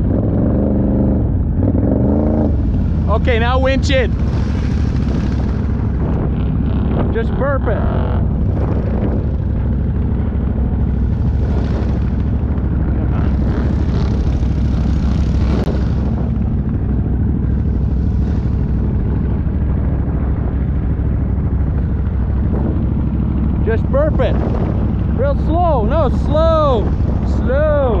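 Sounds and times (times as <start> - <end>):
engine rumbling and revving: 0.0 - 28.0.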